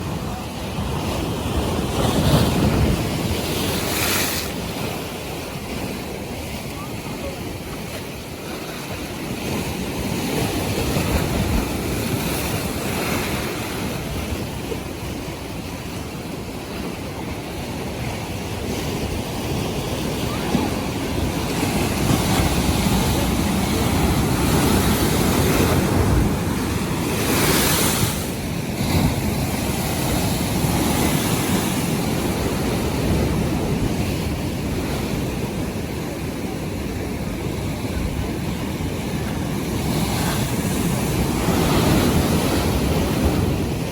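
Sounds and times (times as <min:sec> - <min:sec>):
surf waves washing in: 0:00.0 - 0:43.9.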